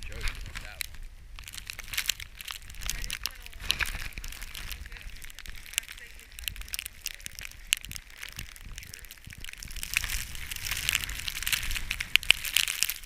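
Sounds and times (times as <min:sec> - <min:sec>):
crunching in snow: 0:00.0 - 0:13.0.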